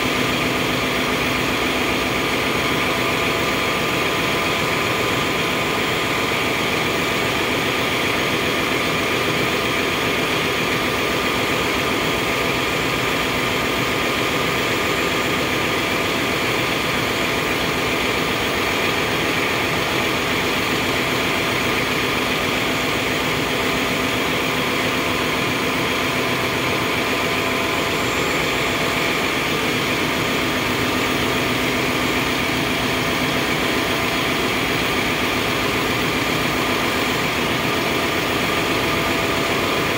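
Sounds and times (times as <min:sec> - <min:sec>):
engine room machinery drone: 0:00.0 - 0:39.9.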